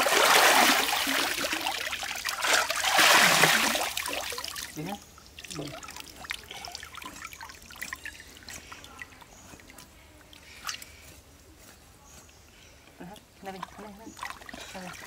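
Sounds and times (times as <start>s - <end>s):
water drips and splashes: 0.0s - 11.0s, 13.1s - 15.0s
river water trickling: 0.0s - 11.1s, 13.0s - 15.0s.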